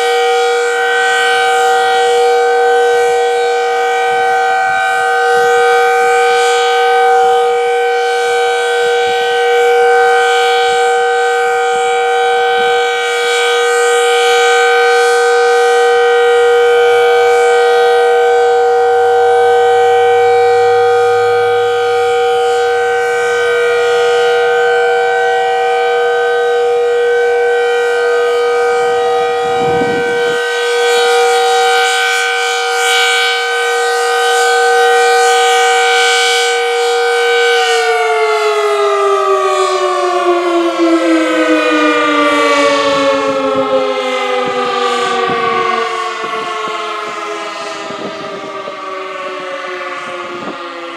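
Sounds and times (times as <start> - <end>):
warning siren steady tone: 0.0 - 50.9.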